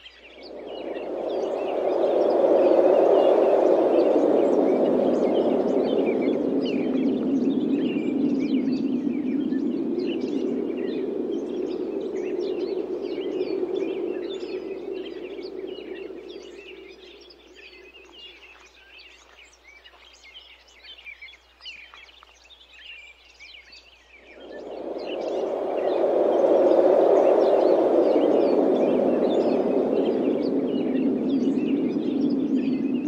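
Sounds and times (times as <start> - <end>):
wind gusting: 0.0 - 18.4, 24.2 - 33.0
small birds chirping: 0.0 - 33.0.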